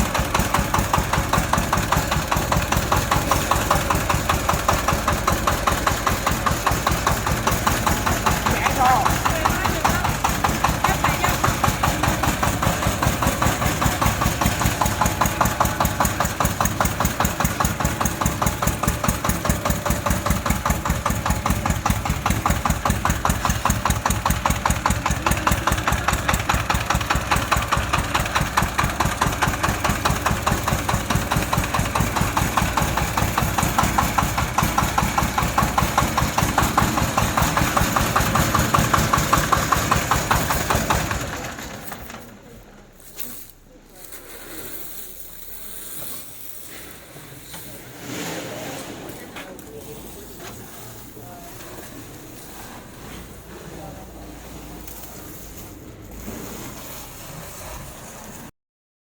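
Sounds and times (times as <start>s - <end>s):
tiller engine running: 0.0s - 58.5s.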